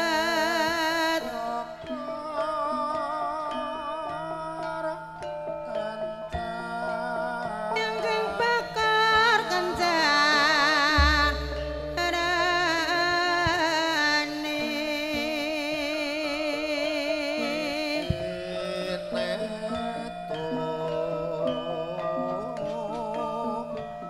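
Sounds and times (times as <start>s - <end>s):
metallophone tones: 0.0s - 24.0s
person singing with vibrato: 0.0s - 24.0s.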